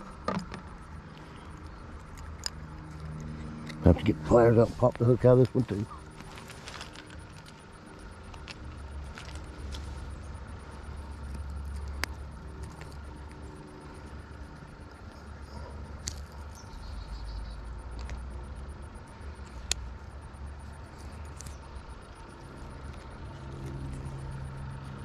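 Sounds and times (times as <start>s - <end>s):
low engine-like rumble: 0.0s - 25.0s.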